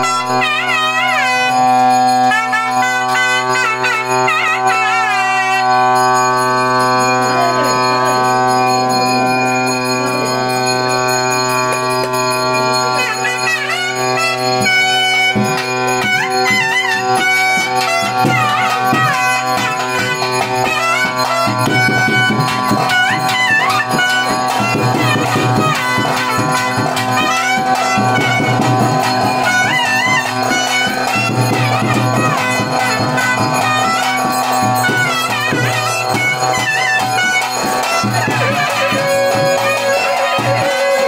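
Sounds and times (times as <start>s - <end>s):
reed pipe melody: 0.0s - 41.0s
steady drone: 0.0s - 41.0s.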